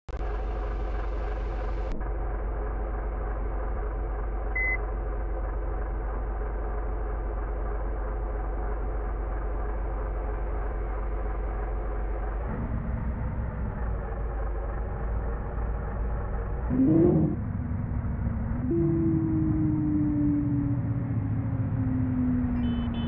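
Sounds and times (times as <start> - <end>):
car engine running: 0.1 - 23.0.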